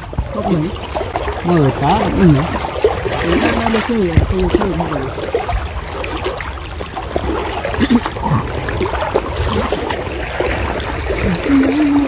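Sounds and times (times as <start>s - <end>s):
water sloshing and swirling: 0.0s - 12.0s.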